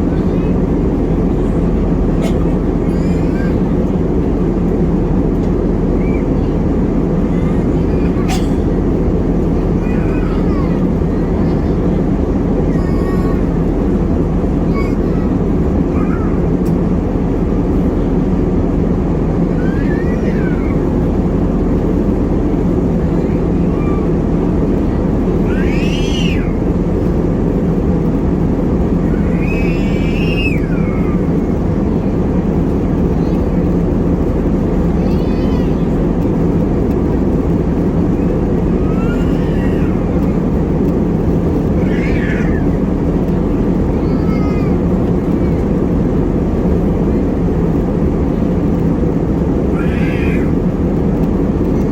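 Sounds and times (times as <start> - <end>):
airliner cabin roar: 0.0 - 51.9.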